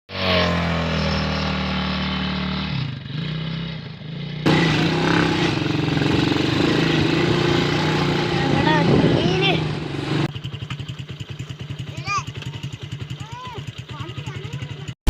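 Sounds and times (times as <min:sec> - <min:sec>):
quad bike engine running: 0:00.2 - 0:15.0.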